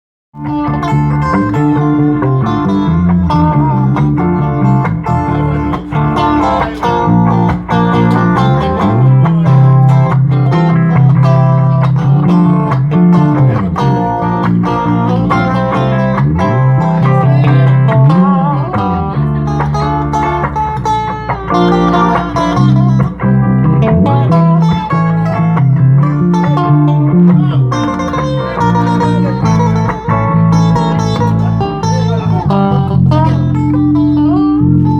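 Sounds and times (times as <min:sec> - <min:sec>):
plucked guitar notes: 0:00.4 - 0:34.9
sliding bass line: 0:00.4 - 0:34.9.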